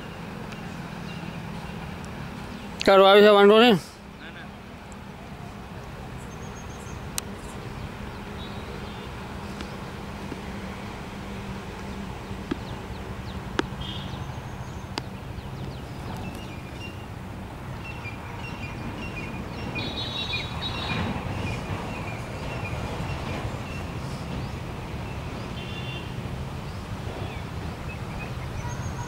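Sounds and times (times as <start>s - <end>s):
small birds chirping: 5.6s - 29.0s.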